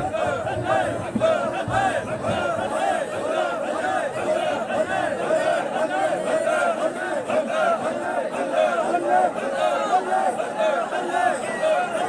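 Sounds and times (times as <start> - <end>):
men chanting: 0.0 - 12.0.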